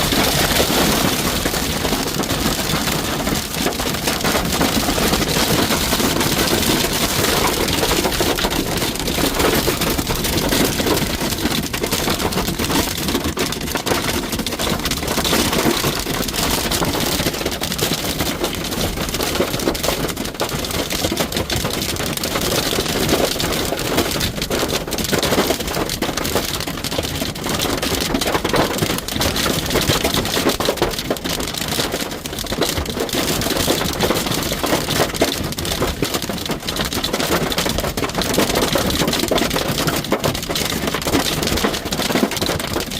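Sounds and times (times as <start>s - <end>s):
hail and rain on metal roof: 0.0s - 42.9s.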